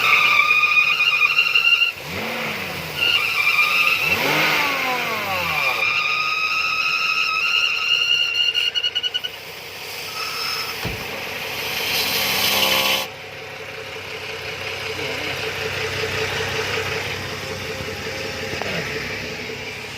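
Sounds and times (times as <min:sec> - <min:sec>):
car engine running: 0:00.0 - 0:06.8, 0:08.2 - 0:19.9.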